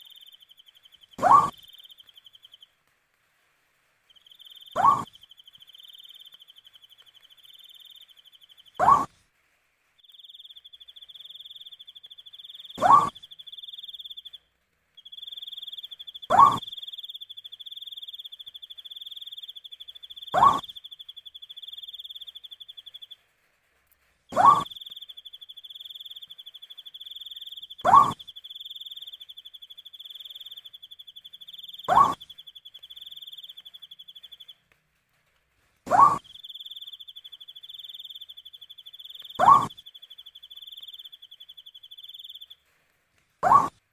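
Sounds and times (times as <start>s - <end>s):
cricket trilling: 0.0s - 2.5s, 4.2s - 9.1s, 10.1s - 14.4s, 15.0s - 23.1s, 24.3s - 34.6s, 35.9s - 42.6s
owl calling: 0.0s - 2.6s, 4.1s - 9.1s, 10.1s - 14.4s, 15.0s - 23.1s, 24.3s - 34.6s, 35.9s - 42.6s, 43.4s - 43.8s.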